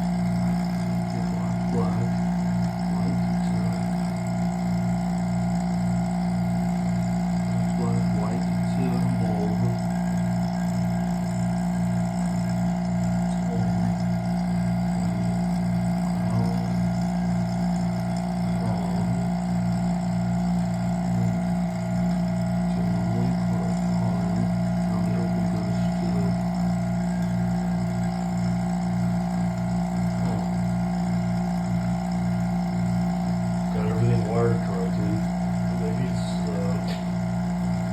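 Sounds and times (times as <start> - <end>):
vacuum pump humming: 0.0 - 37.9.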